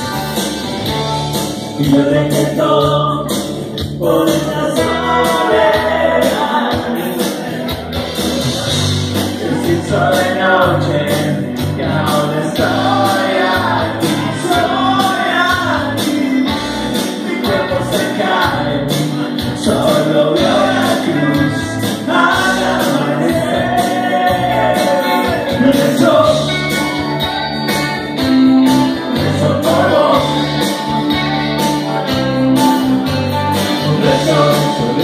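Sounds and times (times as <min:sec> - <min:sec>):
electric guitar: 0:00.0 - 0:35.0
person singing: 0:01.7 - 0:35.0.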